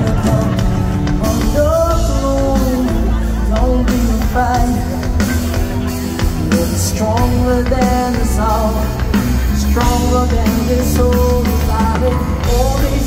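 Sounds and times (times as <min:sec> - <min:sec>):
bass guitar: 0:00.0 - 0:13.0
drums: 0:00.0 - 0:13.0
electric guitar: 0:00.0 - 0:13.0
man singing: 0:00.0 - 0:13.0.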